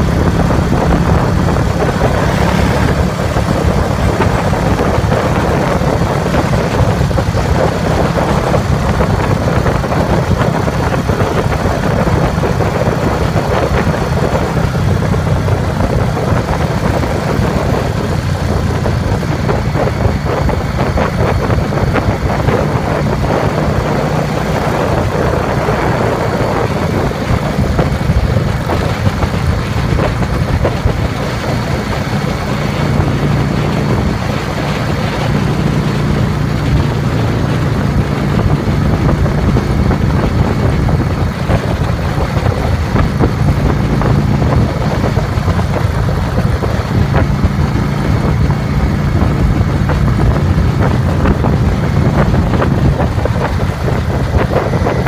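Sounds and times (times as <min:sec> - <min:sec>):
motorcycle engine running: 0:00.0 - 0:55.0
road noise: 0:00.0 - 0:55.0
wind noise: 0:00.0 - 0:55.0.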